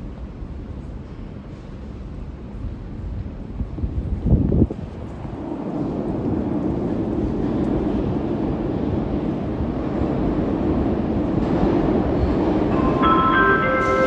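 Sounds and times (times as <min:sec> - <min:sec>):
metro train wheels rumbling: 0:00.0 - 0:14.0.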